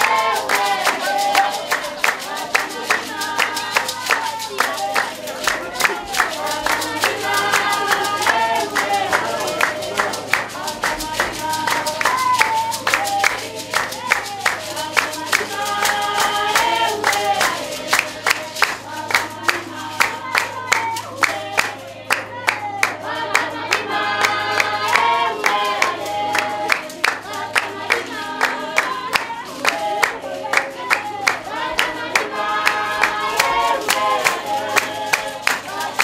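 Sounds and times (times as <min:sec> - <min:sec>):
group singing dance song: 0:00.0 - 0:36.0
hand claps: 0:00.0 - 0:36.0.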